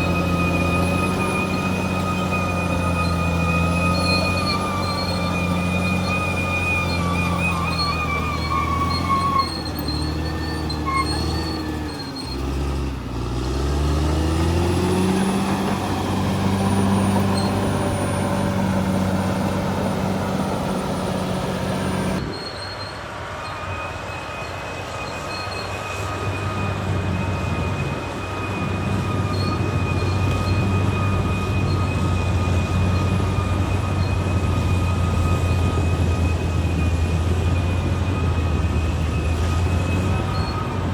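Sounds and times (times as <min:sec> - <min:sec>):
bulldozer diesel engine: 0:00.0 - 0:40.9
track squealing: 0:00.0 - 0:40.9.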